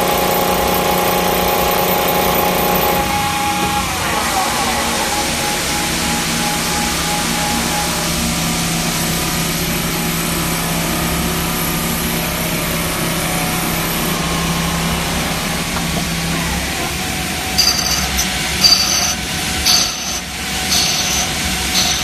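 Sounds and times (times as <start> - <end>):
lathe machine running: 0.0 - 22.0.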